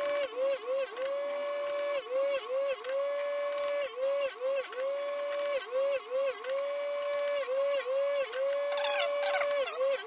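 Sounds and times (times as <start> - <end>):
chain grinder whining: 0.0 - 10.0.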